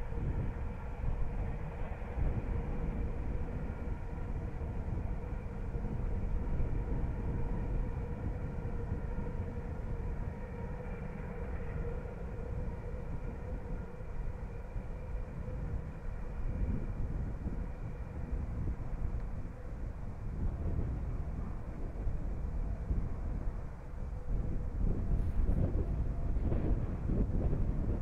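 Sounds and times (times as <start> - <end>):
distant steam train rumble: 0.0 - 28.0
faint steady tones: 0.0 - 28.0.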